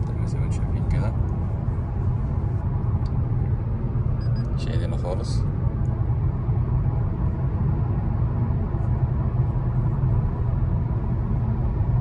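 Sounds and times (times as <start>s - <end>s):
car cabin tyre and engine rumble: 0.0s - 12.0s.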